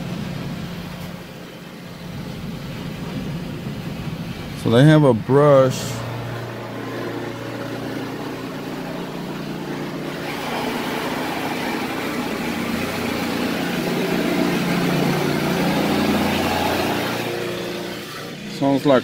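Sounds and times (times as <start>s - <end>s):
car wash brushes spinning: 0.0s - 19.0s
steady motor drone: 0.0s - 19.0s
water spraying on car: 0.0s - 19.0s.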